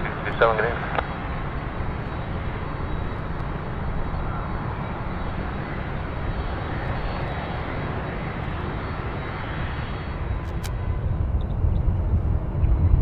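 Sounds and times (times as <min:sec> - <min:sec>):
faint high whine: 0:00.0 - 0:13.0
jet engine rumble: 0:00.0 - 0:13.0.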